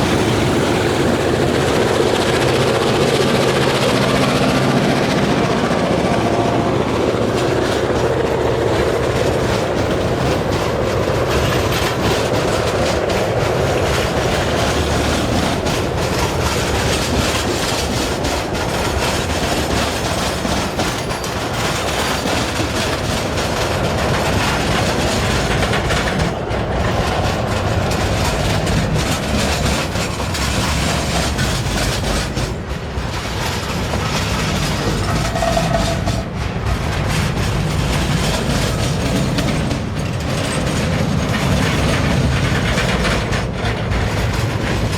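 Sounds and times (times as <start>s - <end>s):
train wheels clickety-clack: 0.0s - 44.9s.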